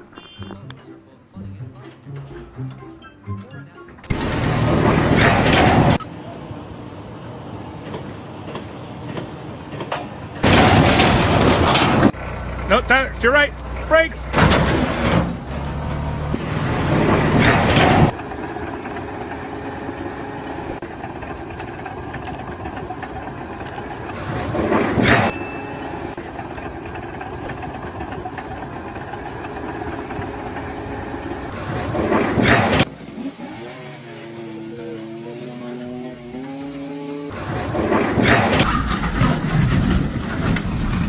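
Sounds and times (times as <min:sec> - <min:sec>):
engine running steadily: 0:02.1 - 0:41.0
noisy engine surges: 0:04.0 - 0:41.0.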